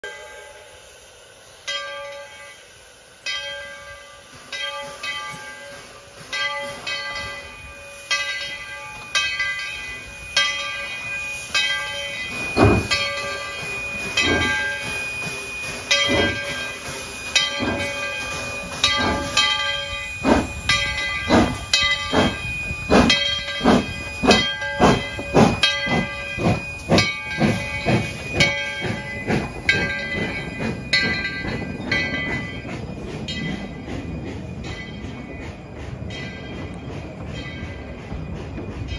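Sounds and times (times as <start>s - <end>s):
steam hissing: 0.0s - 38.9s
steam locomotive chuffing: 0.0s - 38.9s.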